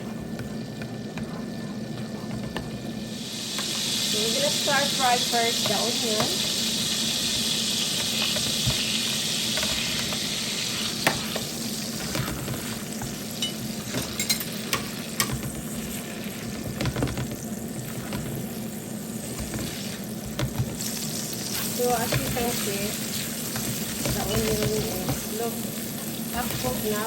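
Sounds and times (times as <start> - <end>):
onions sizzling in a pan: 0.0 - 27.0.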